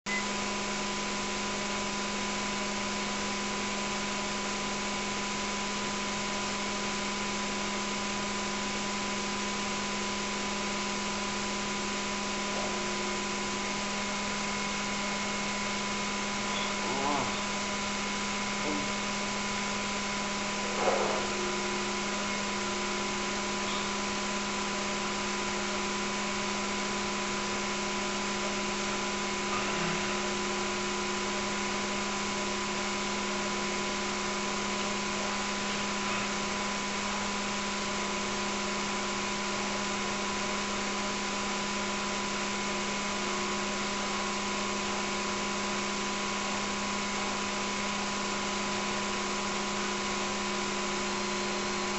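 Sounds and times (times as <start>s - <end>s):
electrical hum: 0.1s - 51.9s.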